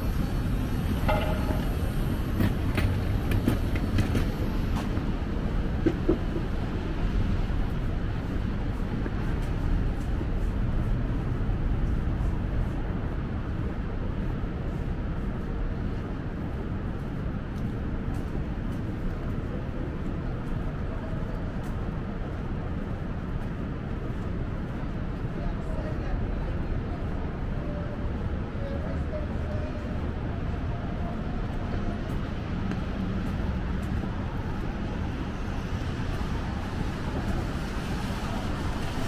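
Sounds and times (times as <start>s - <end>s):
city street traffic rumble: 0.0s - 39.0s.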